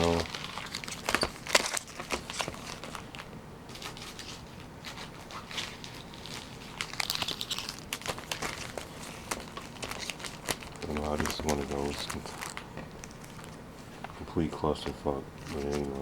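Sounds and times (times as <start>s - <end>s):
plastic and foil packaging crinkling: 0.0s - 16.0s.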